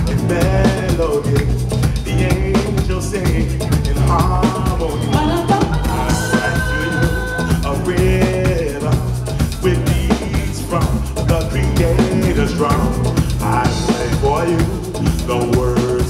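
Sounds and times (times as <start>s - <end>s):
drum kit beat: 0.0s - 16.0s
electric bass guitar: 0.0s - 16.0s
man singing: 0.0s - 16.0s.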